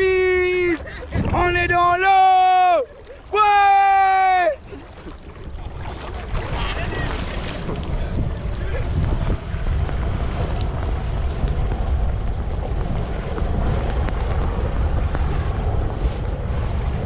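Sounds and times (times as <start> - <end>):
motorboat engine running: 0.0 - 17.0
wind buffeting microphone: 0.0 - 17.0.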